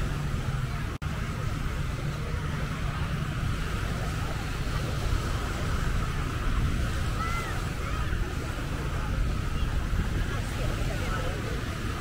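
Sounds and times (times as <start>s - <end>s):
surf washing: 0.0s - 12.0s
wind rumbling on microphone: 0.0s - 12.0s.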